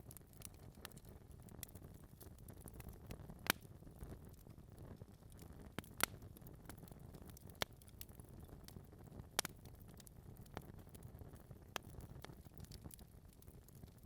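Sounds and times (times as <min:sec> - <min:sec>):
fire flames rumbling: 0:00.0 - 0:14.0
log crackles and pops: 0:00.0 - 0:14.0.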